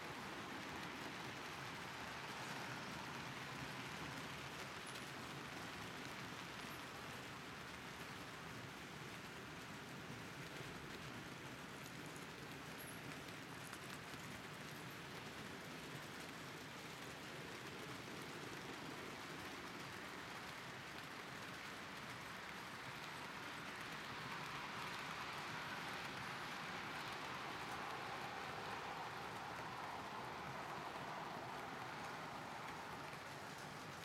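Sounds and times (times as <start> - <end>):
model train wheels clattering on rails: 0.1 - 34.0.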